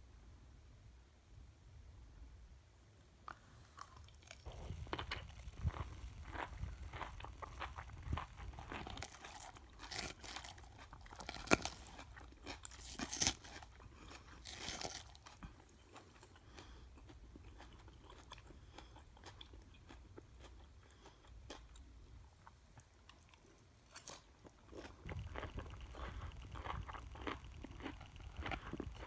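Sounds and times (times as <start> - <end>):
crunching salad bites: 3.3 - 29.0
wet chewing: 3.3 - 29.0.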